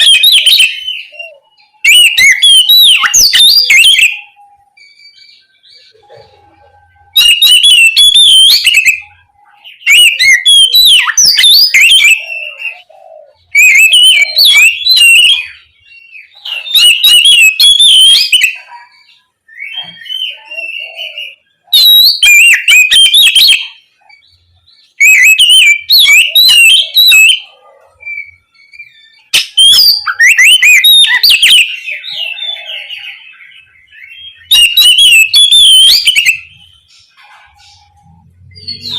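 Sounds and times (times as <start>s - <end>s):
bird singing whistled phrases: 0.0s - 6.0s, 6.9s - 38.9s.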